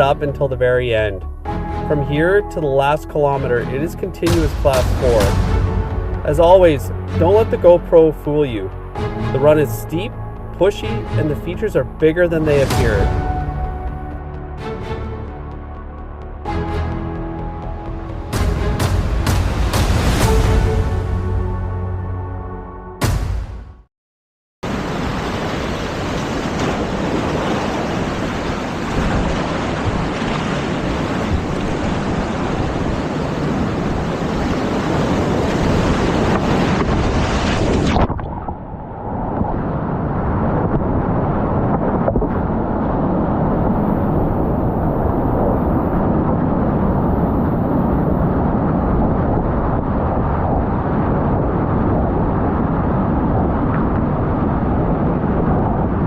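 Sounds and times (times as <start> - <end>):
wind buffeting: 3.6 - 22.3, 24.7 - 56.0.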